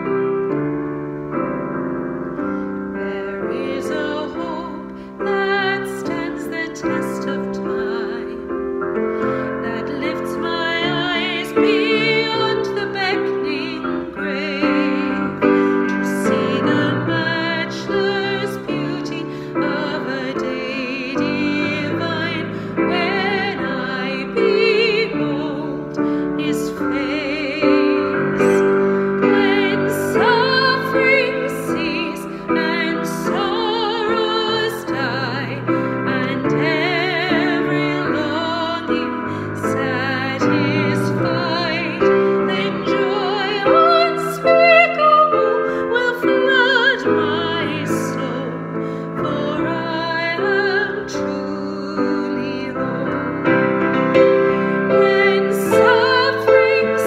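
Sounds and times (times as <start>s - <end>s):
keyboard piano: 0.0s - 57.0s
woman singing a hymn: 2.9s - 57.0s.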